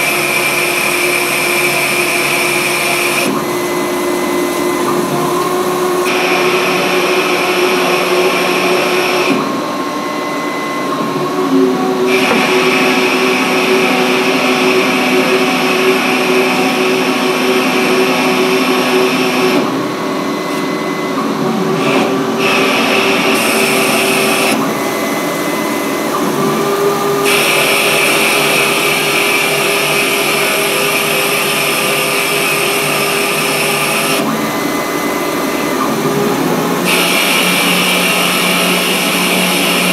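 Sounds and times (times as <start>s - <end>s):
hissing metal cutting: 0.0s - 9.4s, 11.9s - 39.9s
lathe spindle whining: 0.0s - 39.9s.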